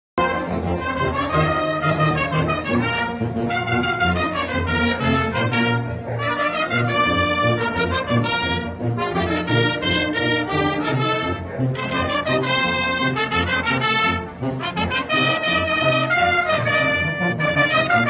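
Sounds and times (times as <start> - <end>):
military brass band playing a march: 0.2 - 18.0.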